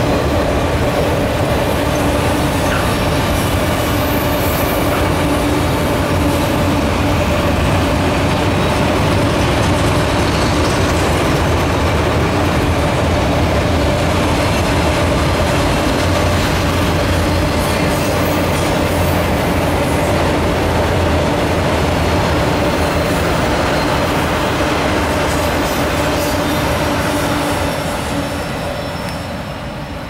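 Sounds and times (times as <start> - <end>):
steel wheels rumbling on rail: 0.0 - 30.0.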